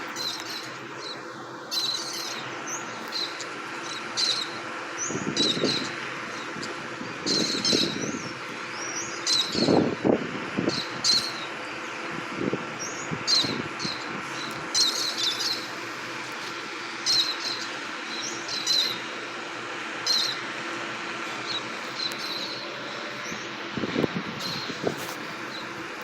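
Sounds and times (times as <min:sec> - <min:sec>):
small birds chirping: 0:00.1 - 0:09.9, 0:10.6 - 0:12.0, 0:12.7 - 0:19.1, 0:20.0 - 0:20.5, 0:21.2 - 0:25.8.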